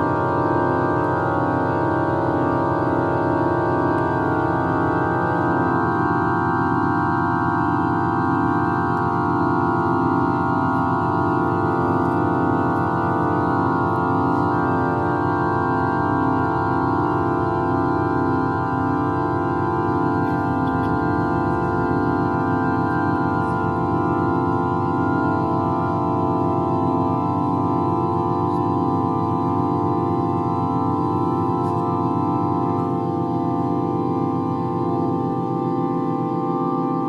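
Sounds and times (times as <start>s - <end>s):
pipe organ tone cluster: 0.0s - 37.0s.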